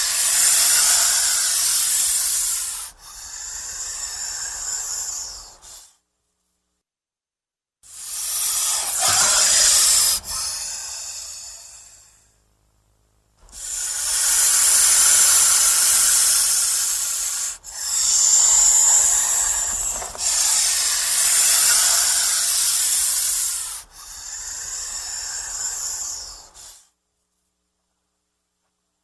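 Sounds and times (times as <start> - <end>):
snake hissing: 0.0 - 6.0, 7.9 - 12.3, 13.4 - 26.9.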